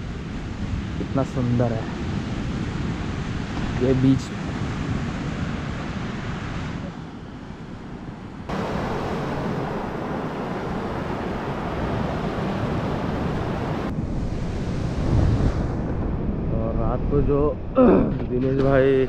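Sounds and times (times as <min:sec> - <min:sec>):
sea surf on a beach: 0:00.0 - 0:17.7
wind buffeting the microphone: 0:00.0 - 0:19.0.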